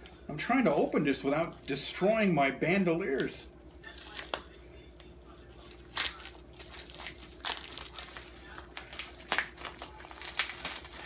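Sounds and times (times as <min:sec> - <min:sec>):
plastic and foil package crinkling: 0:00.0 - 0:11.0.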